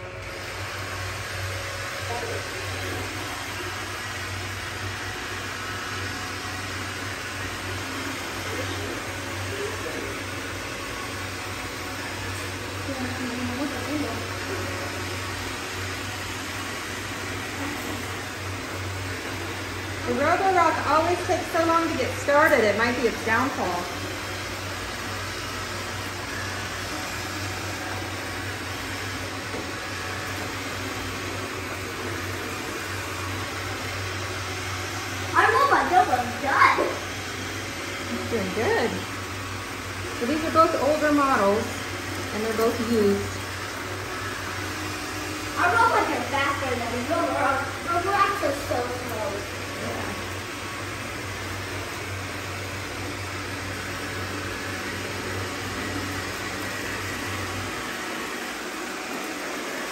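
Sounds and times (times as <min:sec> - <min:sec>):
robot vacuums humming: 0:00.0 - 0:59.9.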